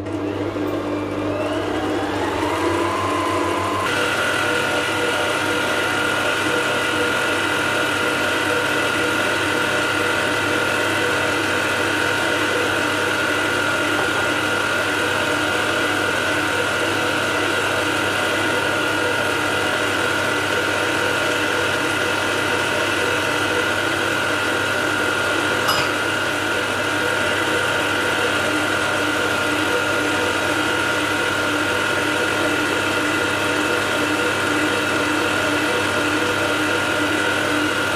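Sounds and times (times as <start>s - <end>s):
stand mixer motor whine: 0.0s - 37.9s.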